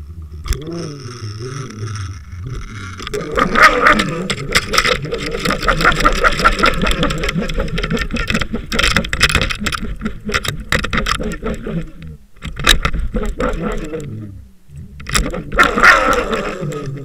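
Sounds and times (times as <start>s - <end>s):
underwater knocks and rattles: 0.3s - 14.1s.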